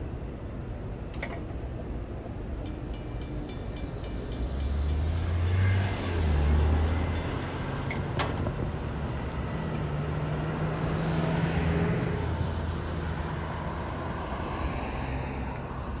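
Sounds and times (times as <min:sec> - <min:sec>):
cars crossing railroad tracks: 0:00.0 - 0:16.0.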